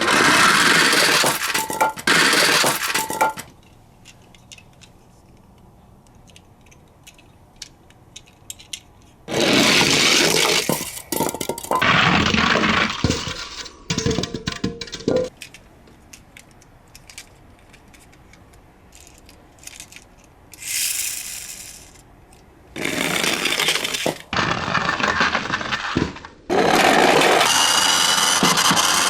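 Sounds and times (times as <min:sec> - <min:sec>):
toy cars rolling down slope: 0:00.0 - 0:04.9, 0:06.3 - 0:29.0
toy cars clicking and rattling: 0:00.0 - 0:11.9, 0:14.9 - 0:29.0.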